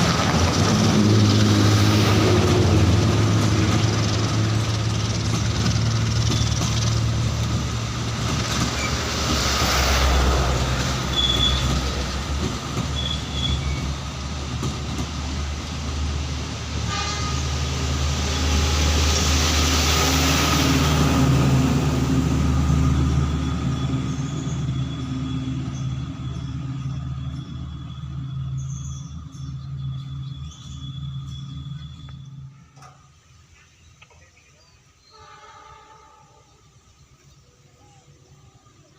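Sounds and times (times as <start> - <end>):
train wheels rolling on rails: 0.0 - 35.4
diesel locomotive drone: 0.0 - 38.9.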